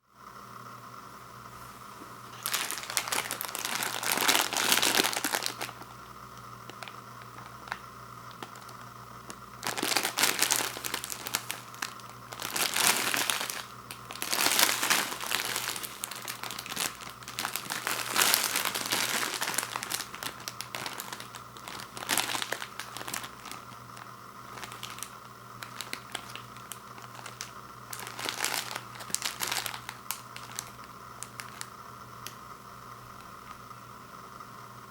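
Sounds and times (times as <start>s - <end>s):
faint steady hum: 0.0s - 34.9s
plastic wrapper crinkling: 2.3s - 32.4s.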